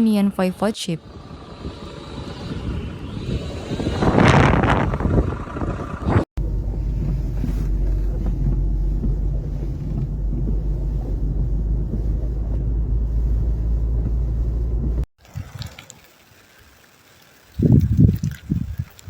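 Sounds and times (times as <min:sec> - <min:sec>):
storm wind buffeting microphone: 0:01.0 - 0:15.8, 0:17.6 - 0:19.0.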